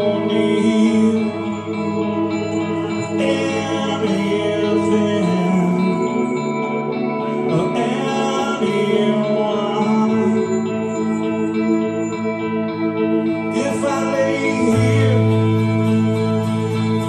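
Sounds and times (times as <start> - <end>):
man singing into a microphone: 0.0 - 12.2, 13.3 - 17.0
backing track music: 0.0 - 17.0.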